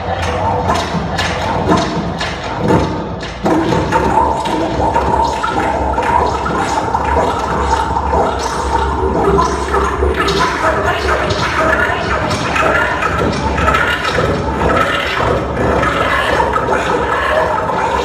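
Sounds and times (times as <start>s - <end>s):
knocks and clatters: 0.0s - 17.2s
electronic music through speaker: 0.0s - 18.0s.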